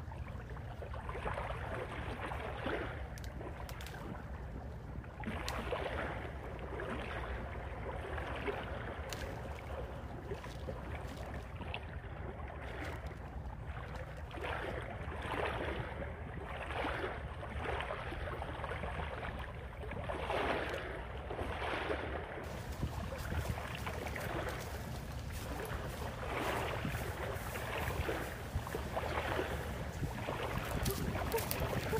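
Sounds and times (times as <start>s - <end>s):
lapping water: 0.0s - 31.9s
wind rumbling on microphone: 0.0s - 31.9s.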